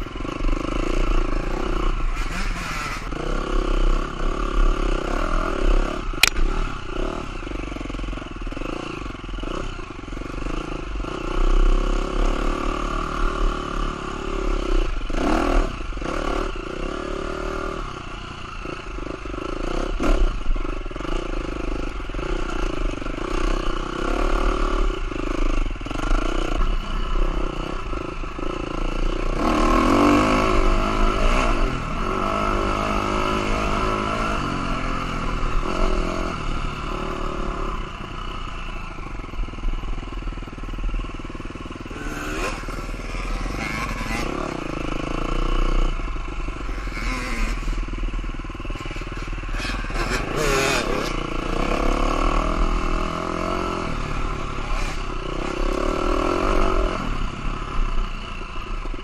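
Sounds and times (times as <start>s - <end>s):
dirt bike engine revving: 0.0s - 39.7s, 40.3s - 59.0s.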